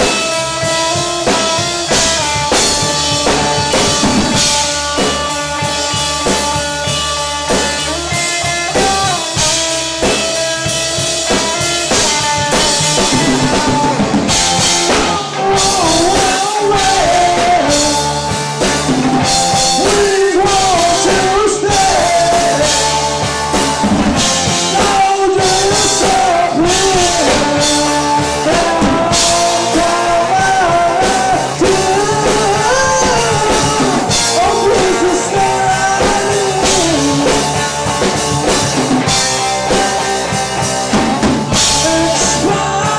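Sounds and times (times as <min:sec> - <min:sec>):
drum kit: 0:00.0 - 0:42.9
electric guitar: 0:00.0 - 0:42.9
man singing: 0:00.0 - 0:42.9.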